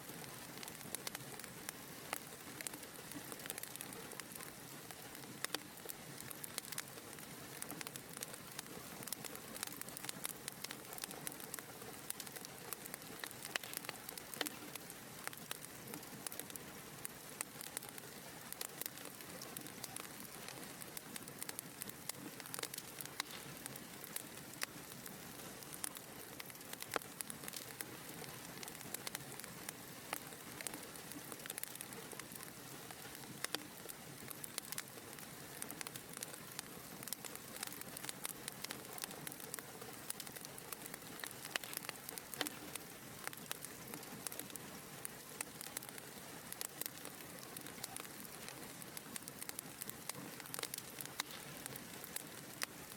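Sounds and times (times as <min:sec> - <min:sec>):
fire crackling: 0:00.0 - 0:52.9.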